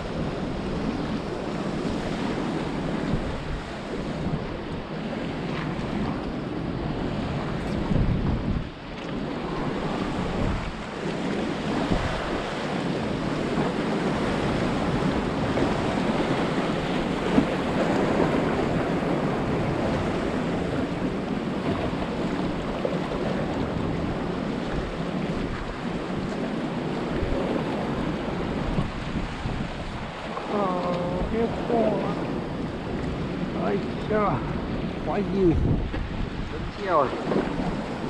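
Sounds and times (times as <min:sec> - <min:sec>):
wind buffeting microphone: 0:00.0 - 0:38.0
waves breaking on concrete: 0:07.4 - 0:38.0.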